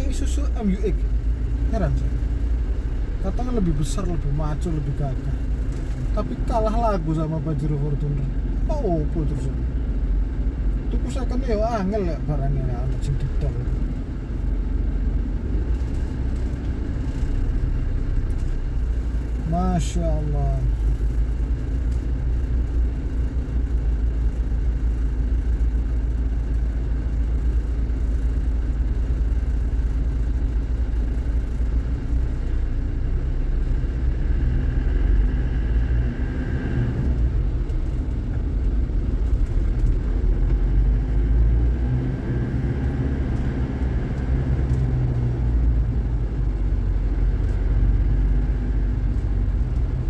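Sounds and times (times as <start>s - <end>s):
engine and road rumble in car: 0.0s - 50.0s.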